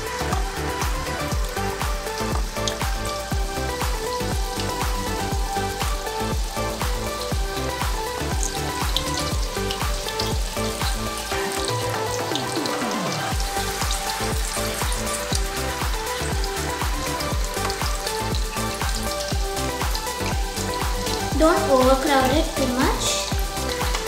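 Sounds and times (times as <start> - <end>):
background music with beat: 0.0 - 24.0
chicken deep-frying sizzle: 0.0 - 24.0.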